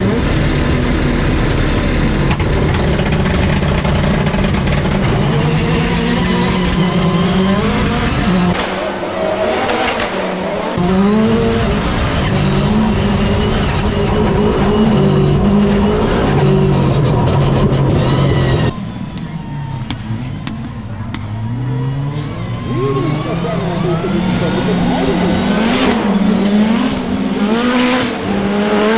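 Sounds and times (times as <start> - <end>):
distant engine running: 0.0 - 28.9
rally car engine revving: 0.0 - 28.9.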